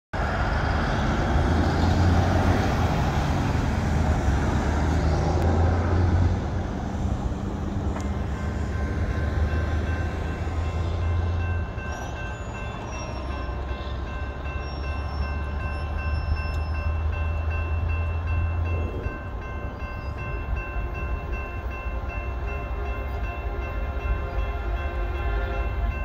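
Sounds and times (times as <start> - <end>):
road traffic: 0.2 - 26.0.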